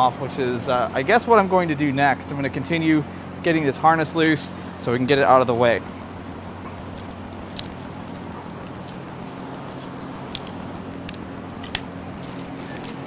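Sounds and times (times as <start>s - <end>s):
low shop hum: 0.0s - 13.0s.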